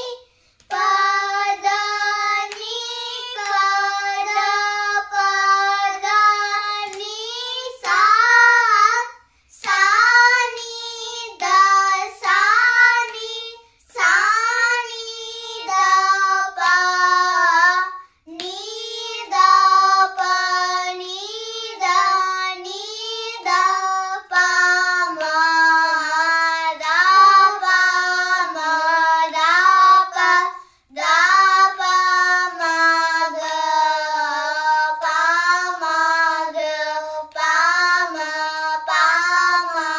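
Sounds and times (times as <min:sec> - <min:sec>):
children singing in unison: 0:00.0 - 0:39.9.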